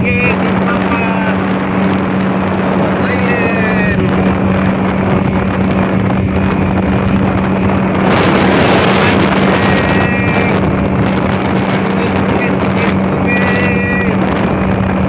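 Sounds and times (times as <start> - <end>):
rush of water and wind: 0.0 - 15.0
speedboat engine running: 0.0 - 15.0.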